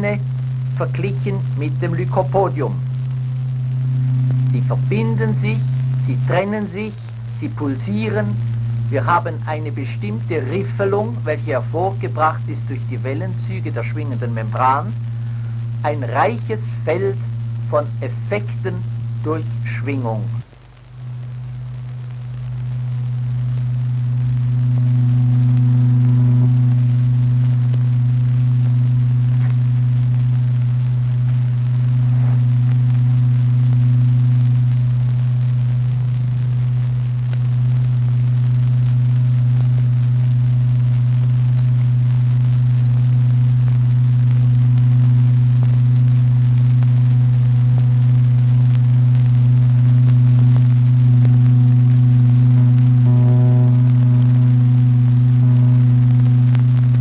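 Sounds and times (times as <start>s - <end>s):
low electronic tone: 0.0s - 57.0s.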